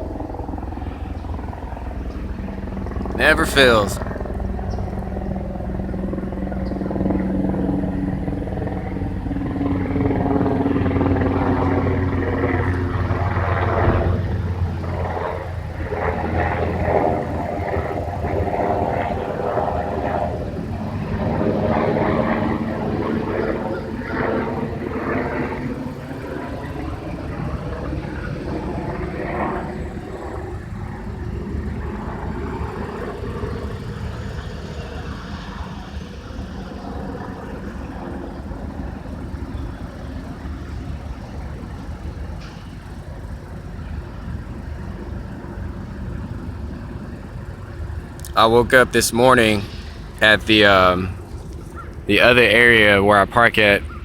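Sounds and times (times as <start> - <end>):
aircraft engine droning overhead: 0.0 - 54.0.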